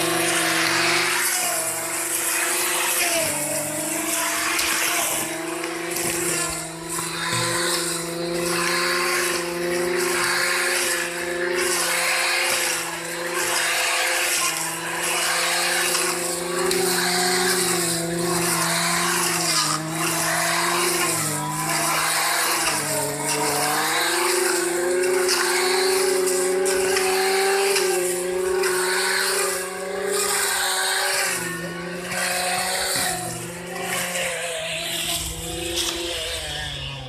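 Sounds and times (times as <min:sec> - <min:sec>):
brush cutter engine running: 0:00.0 - 0:37.0
cutting through dry grass: 0:00.0 - 0:37.0.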